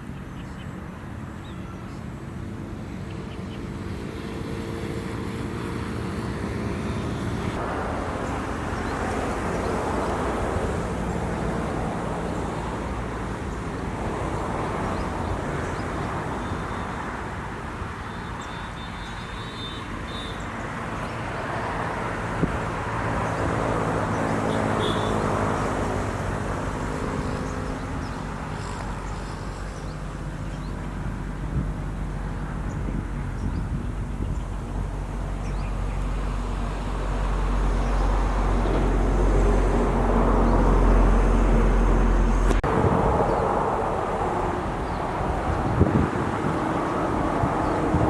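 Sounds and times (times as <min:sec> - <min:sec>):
low engine hum: 0:00.0 - 0:17.2, 0:20.7 - 0:48.0
vehicles passing on road: 0:00.0 - 0:48.0.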